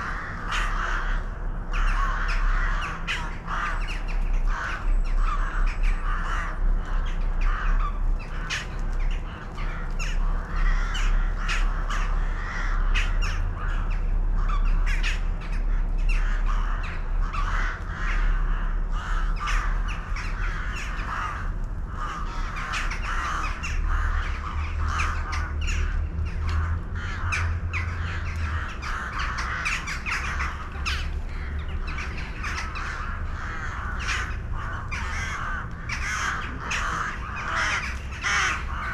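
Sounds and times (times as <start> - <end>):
birds calling in chorus: 0.0 - 38.9.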